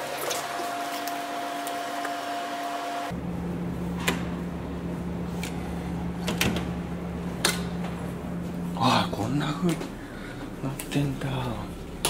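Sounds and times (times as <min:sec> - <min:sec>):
ship engine and ventilation drone: 0:01.0 - 0:12.0.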